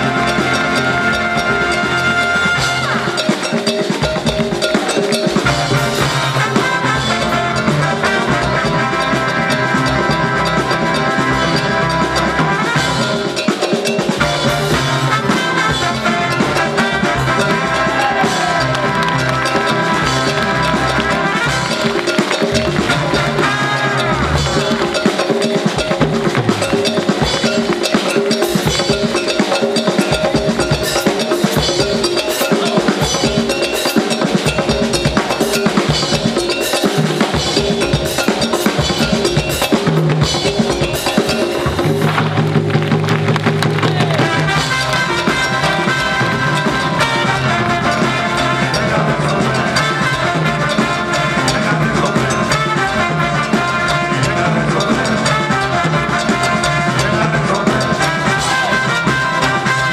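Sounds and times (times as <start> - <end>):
drum kit and percussion: 0.0 - 59.9
live band playing: 0.0 - 59.9.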